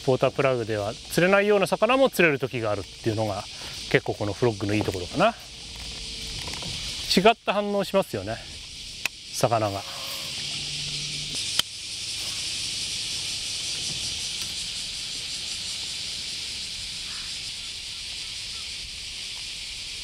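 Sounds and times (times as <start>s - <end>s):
cicada chorus drone: 0.0s - 20.0s.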